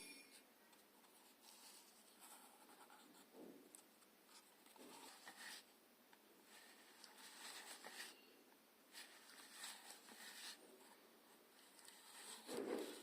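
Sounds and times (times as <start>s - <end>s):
faint scratching and rustling: 0.3s - 5.8s, 6.4s - 13.0s.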